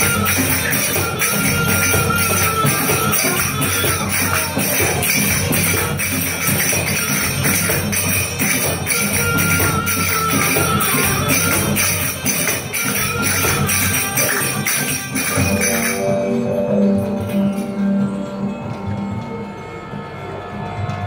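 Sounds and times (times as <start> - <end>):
finger cymbals ringing: 0.0 - 20.1
belly dance music: 0.0 - 21.0.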